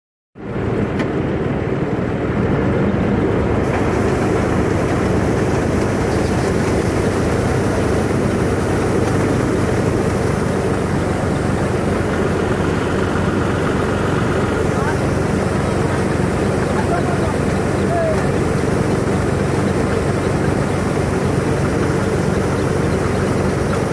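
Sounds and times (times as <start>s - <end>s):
harvesting machine engine drone: 0.4s - 23.9s.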